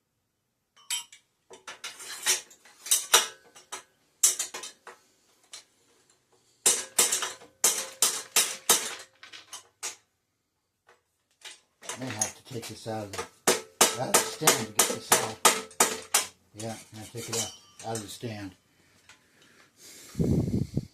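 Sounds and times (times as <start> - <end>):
metal tools clinking and tapping: 0.8 - 10.0, 10.9 - 19.2.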